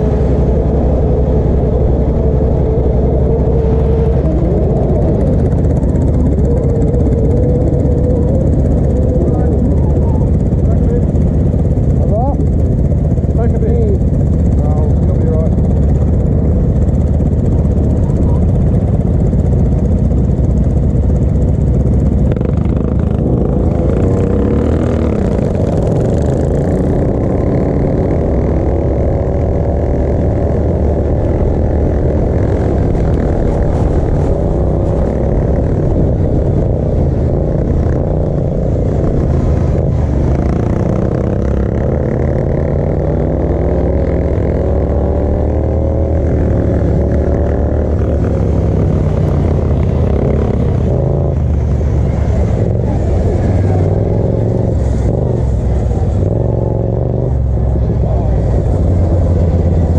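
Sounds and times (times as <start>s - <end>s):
machine and track rumble: 0.0s - 59.9s.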